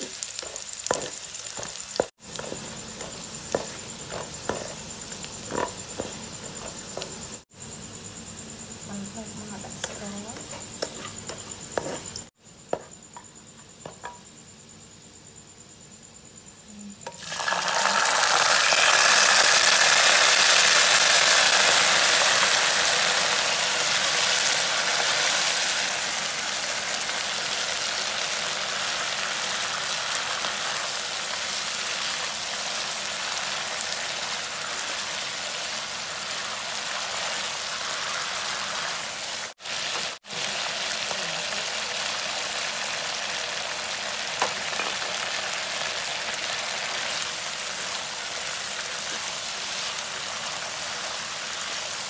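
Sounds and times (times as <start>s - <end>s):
garlic frying in oil: 0.0s - 7.7s, 8.9s - 12.9s, 17.0s - 52.0s
food sizzling in hot oil: 0.0s - 14.2s, 17.0s - 52.0s.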